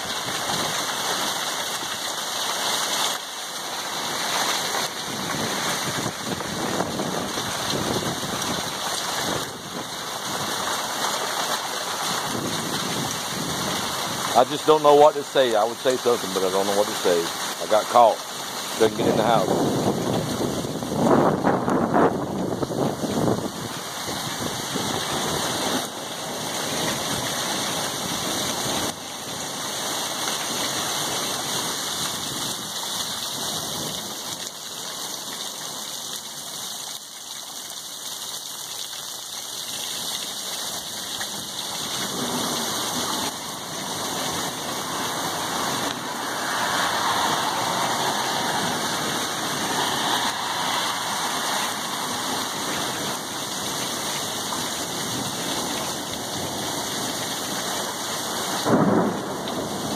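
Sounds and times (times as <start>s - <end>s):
hail and heavy rain falling: 0.0s - 59.9s.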